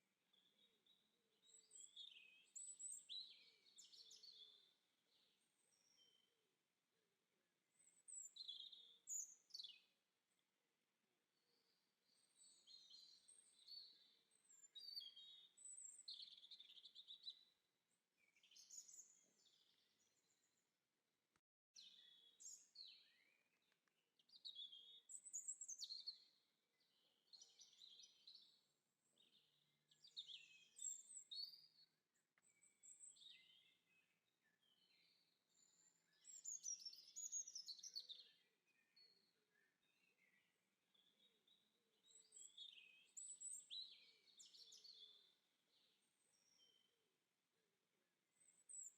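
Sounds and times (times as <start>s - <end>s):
songbirds chirping and trilling: 0.3s - 6.5s, 7.7s - 10.4s, 11.4s - 20.6s, 21.8s - 47.1s, 48.3s - 48.9s.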